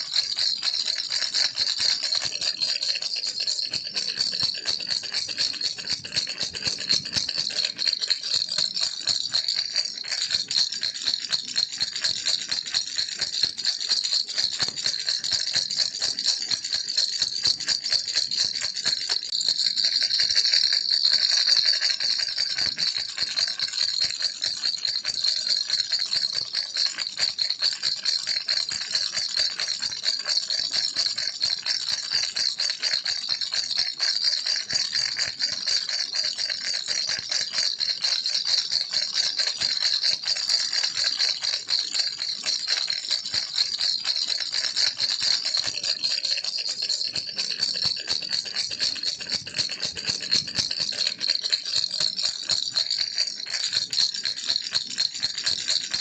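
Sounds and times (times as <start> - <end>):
baby rattle shaken: 0.0 - 56.0.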